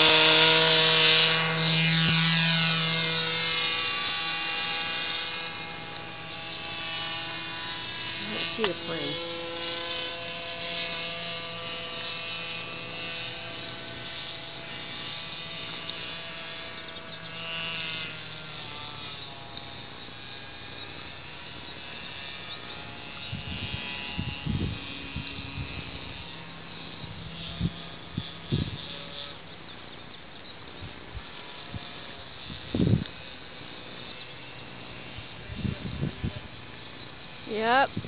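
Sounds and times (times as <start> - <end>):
model airplane motor buzzing: 0.0 - 38.0.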